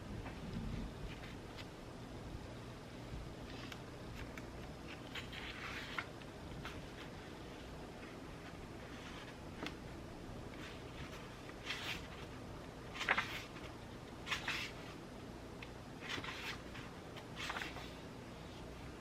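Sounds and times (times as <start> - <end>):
faint background hiss: 0.0 - 19.0.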